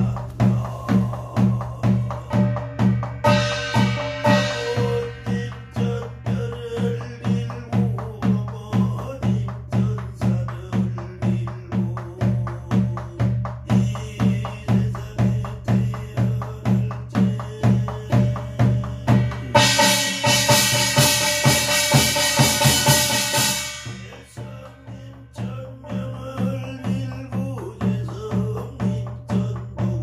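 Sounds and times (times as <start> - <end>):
barrel drum beating: 0.0 - 30.0.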